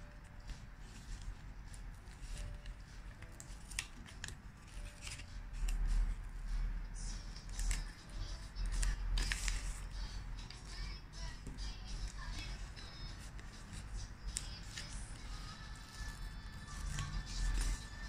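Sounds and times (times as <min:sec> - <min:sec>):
sticker paper crackling and rustling: 0:00.0 - 0:18.0.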